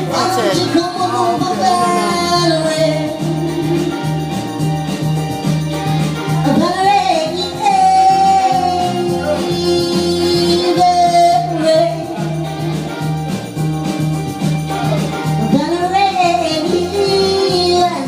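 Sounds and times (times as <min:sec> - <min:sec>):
pop-soul song with steady beat: 0:00.0 - 0:18.0.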